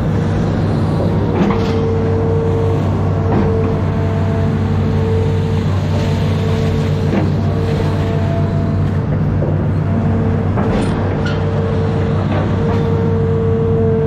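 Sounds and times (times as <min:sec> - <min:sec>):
excavator diesel engine running: 0:00.0 - 0:14.0
hydraulic whine: 0:00.0 - 0:14.0.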